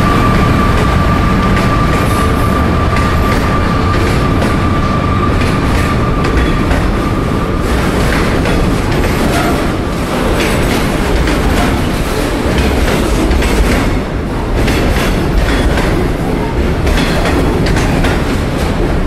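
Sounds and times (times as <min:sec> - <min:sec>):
freight train wagons rumbling: 0:00.0 - 0:19.0
wheels clattering over rail joints: 0:00.8 - 0:19.0.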